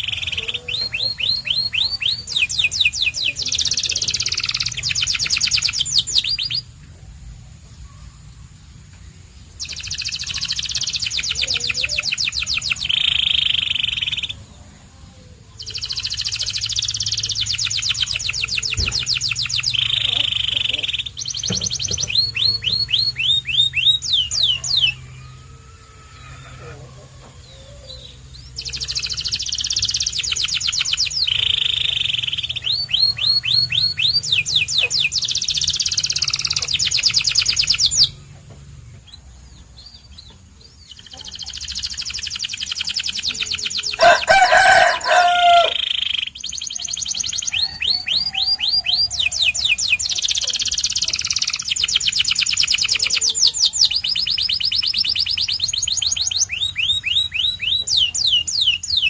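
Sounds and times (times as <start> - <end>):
lower-pitched bird call: 0.0 - 6.7, 9.6 - 14.5, 15.6 - 38.3, 40.8 - 59.0
canary singing in rapid trills: 0.0 - 59.0.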